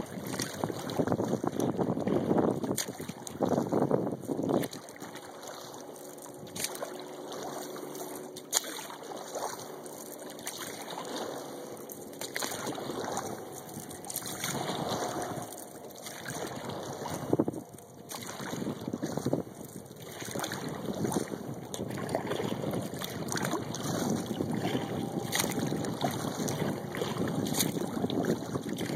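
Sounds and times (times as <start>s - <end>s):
paddle dipping in water: 0.0s - 28.9s
water splashing around kayak: 0.0s - 28.9s.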